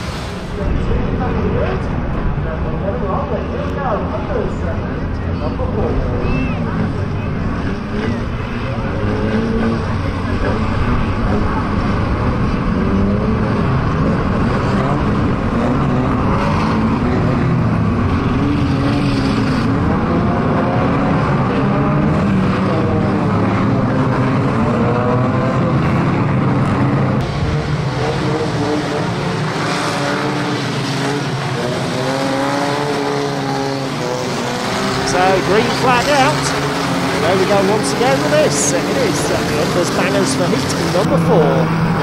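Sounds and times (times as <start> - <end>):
racing car engines: 0.0 - 42.0.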